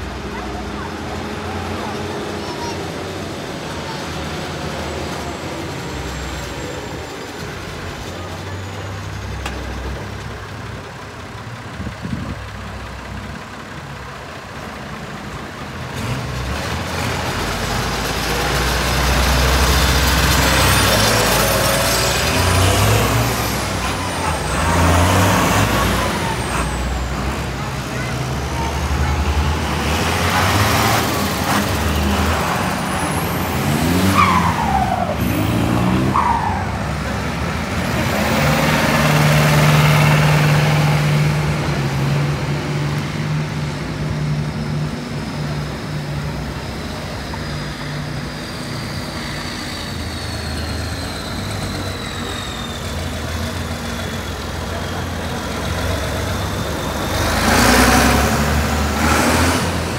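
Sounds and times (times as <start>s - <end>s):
tractor engines rumbling past: 0.0s - 59.9s.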